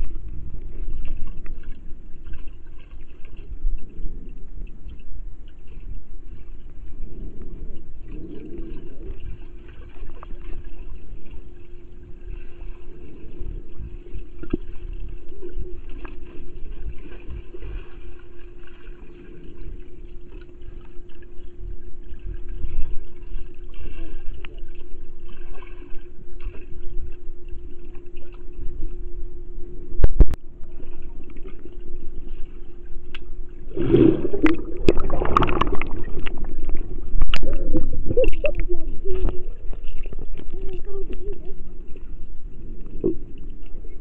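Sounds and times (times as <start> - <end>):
steady low hum: 0.0 - 44.0
underwater rumble and gurgling: 0.0 - 44.0.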